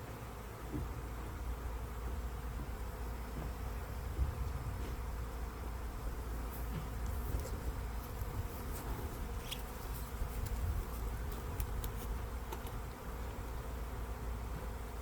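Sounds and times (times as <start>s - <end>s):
bees buzzing: 0.2s - 15.0s.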